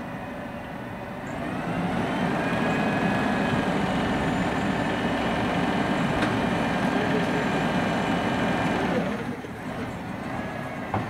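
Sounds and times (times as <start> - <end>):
garbage truck engine revving: 1.2 - 11.0.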